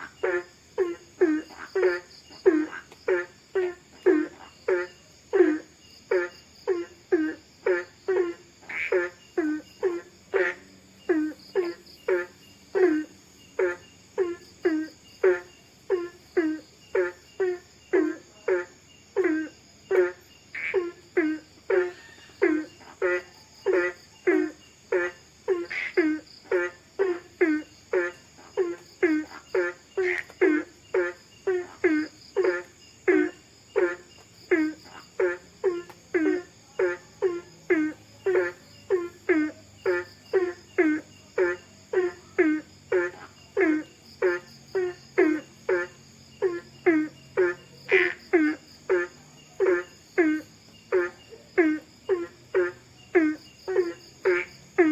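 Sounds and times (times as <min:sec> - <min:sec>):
high insect chorus: 0:00.0 - 0:54.9.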